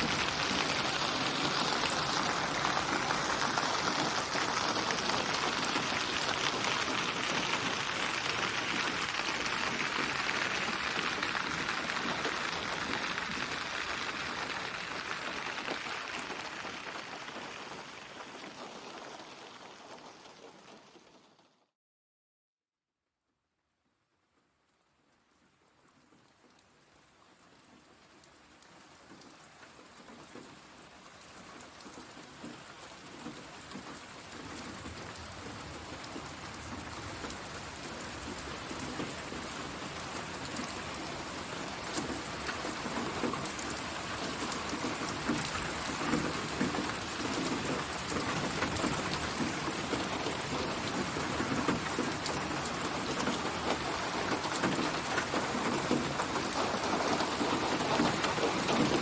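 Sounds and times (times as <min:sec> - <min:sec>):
rain pattering: 0:00.0 - 0:21.7, 0:24.7 - 0:59.0.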